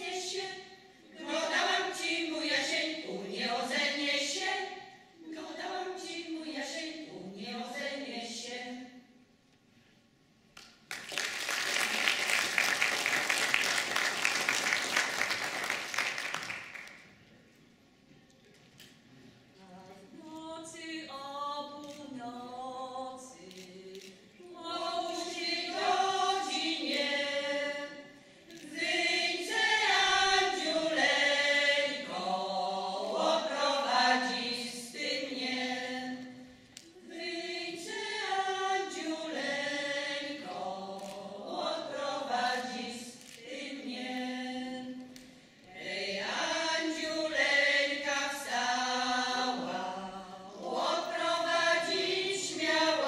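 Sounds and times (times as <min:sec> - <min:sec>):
women's group singing a cappella: 0:00.0 - 0:09.2, 0:19.6 - 0:53.0.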